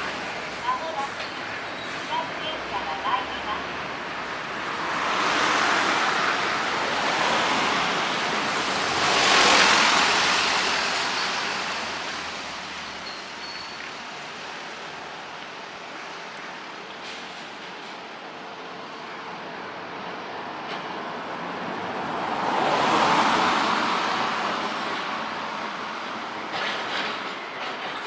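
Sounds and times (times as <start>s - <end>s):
background traffic noise: 0.0s - 28.0s.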